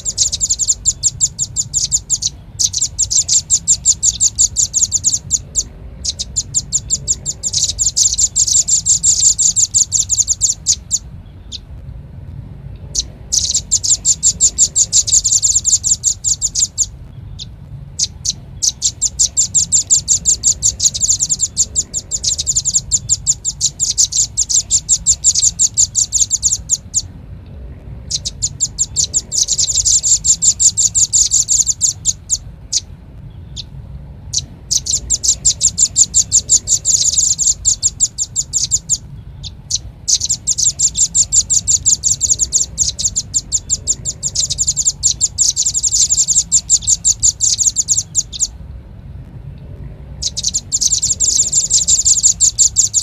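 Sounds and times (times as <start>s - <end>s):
bird chattering trills: 0.0s - 48.6s, 50.0s - 53.0s.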